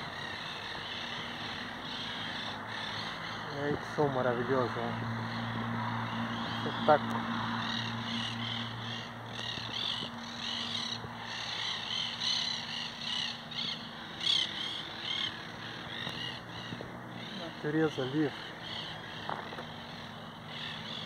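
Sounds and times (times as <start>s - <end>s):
parakeets squawking: 0.0s - 21.0s.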